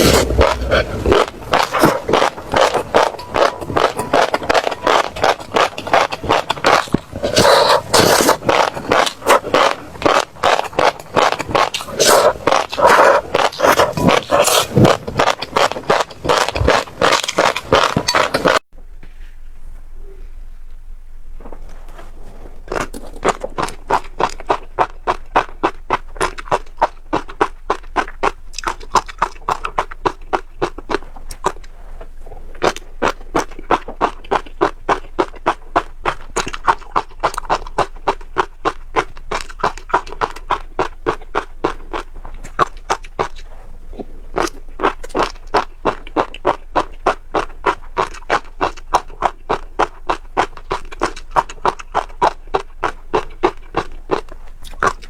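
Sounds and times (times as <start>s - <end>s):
crunching seeds being chewed: 0.0s - 18.7s, 22.2s - 55.0s.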